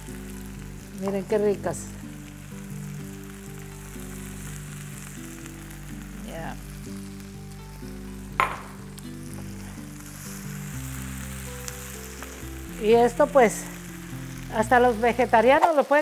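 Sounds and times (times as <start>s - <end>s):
soft background music: 0.0s - 16.0s
vegetables sizzling in a frying pan: 0.0s - 16.0s.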